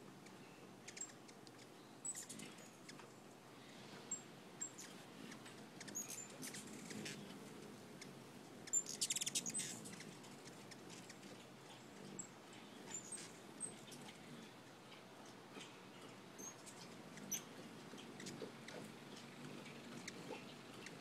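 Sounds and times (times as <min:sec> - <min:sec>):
hummingbird chattering: 0:00.2 - 0:21.0
hummingbird chip notes: 0:00.2 - 0:21.0.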